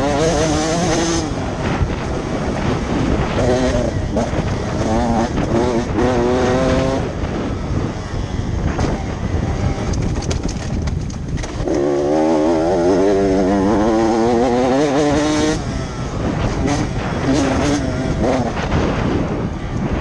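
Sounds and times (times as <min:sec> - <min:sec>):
motocross bike engine revving: 0:00.0 - 0:10.7, 0:11.4 - 0:20.0
wind noise: 0:00.0 - 0:20.0.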